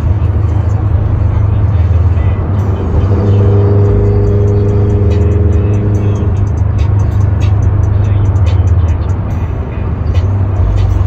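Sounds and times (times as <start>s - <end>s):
car road and engine rumble: 0.0s - 11.0s
held steady tone: 0.0s - 11.0s.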